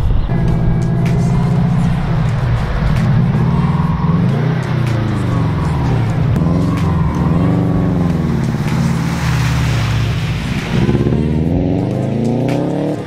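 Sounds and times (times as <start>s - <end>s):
car engine revving: 0.0s - 13.0s
water spray rushing: 0.8s - 13.0s.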